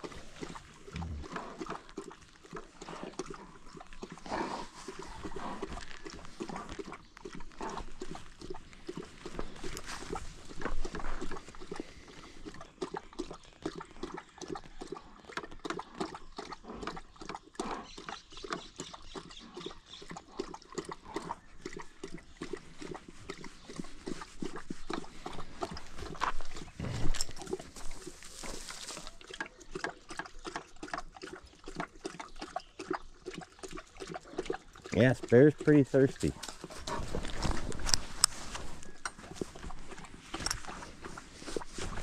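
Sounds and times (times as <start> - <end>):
dog lapping water: 0.0 - 42.0.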